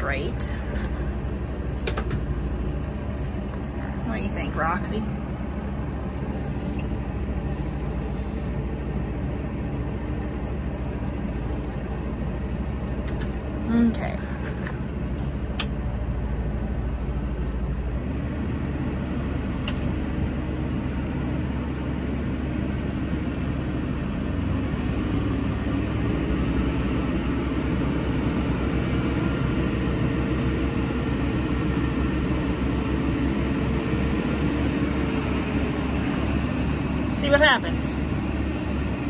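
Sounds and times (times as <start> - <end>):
tractor engine hum: 0.0 - 39.0.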